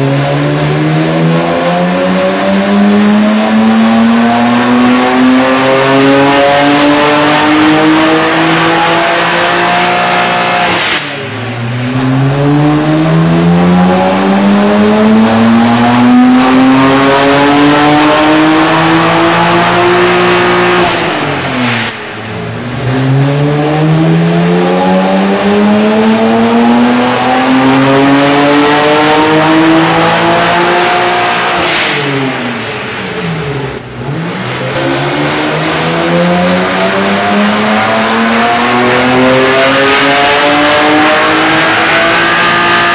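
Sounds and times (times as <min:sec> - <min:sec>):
car engine revving on a dyno: 0:00.0 - 0:42.9.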